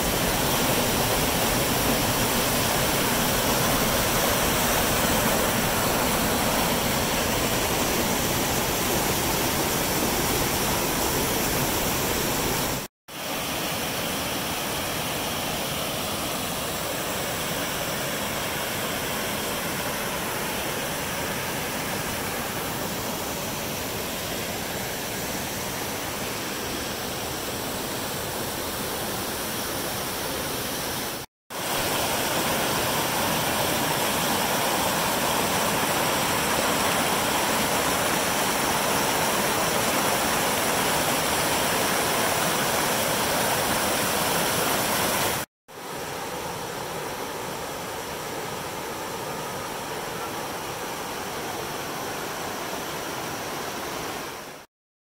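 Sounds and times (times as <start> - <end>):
creek rushing over rocks: 0.0 - 54.7.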